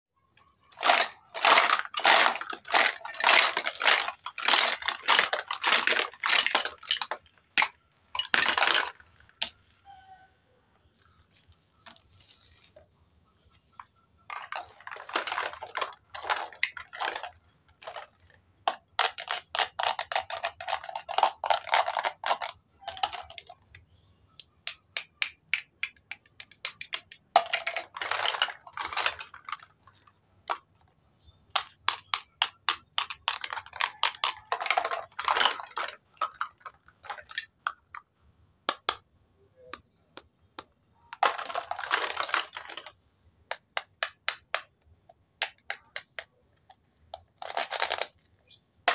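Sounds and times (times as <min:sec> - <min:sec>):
hard plastic pieces clacking: 0:00.7 - 0:09.7, 0:13.7 - 0:48.9.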